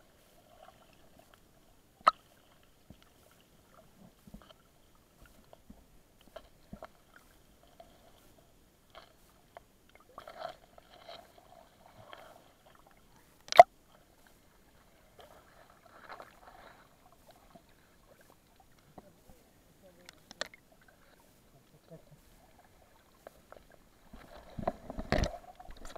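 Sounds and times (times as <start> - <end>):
faint underwater crackles and clicks: 0.0 - 25.9.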